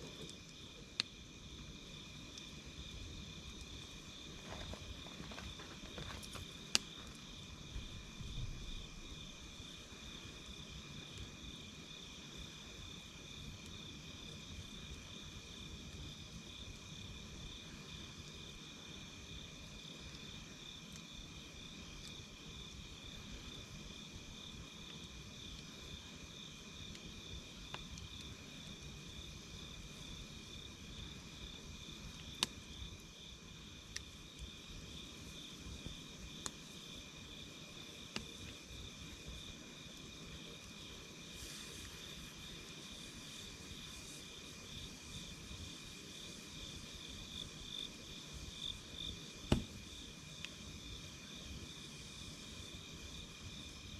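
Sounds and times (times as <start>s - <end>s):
campfire crackling: 0.0s - 53.9s
insects trilling: 0.0s - 53.9s.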